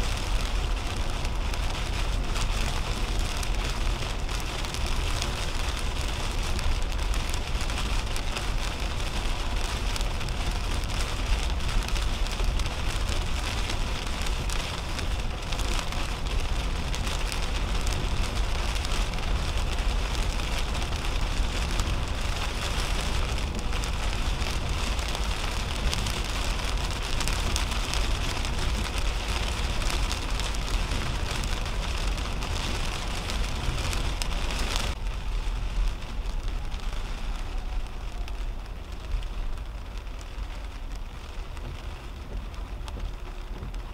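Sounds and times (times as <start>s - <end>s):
heavy rain on car roof: 0.0s - 43.9s
tyres on wet highway: 0.0s - 43.9s.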